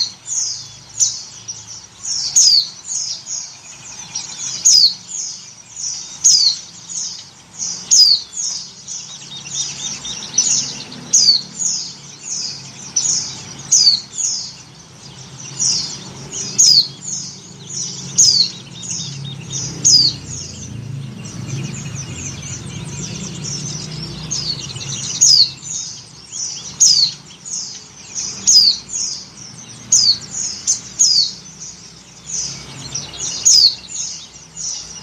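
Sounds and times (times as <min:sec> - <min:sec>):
birds chirping high call notes: 0:00.0 - 0:35.0.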